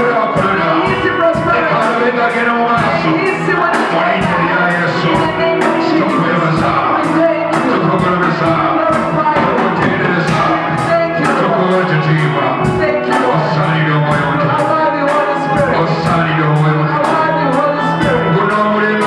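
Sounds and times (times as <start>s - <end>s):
worship music with singing: 0.0s - 19.0s.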